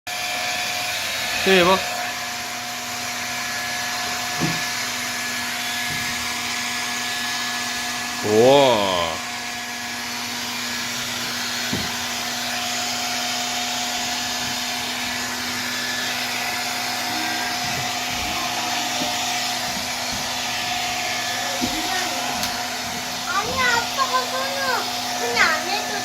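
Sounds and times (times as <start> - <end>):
hair dryer blowing: 0.1 - 26.0.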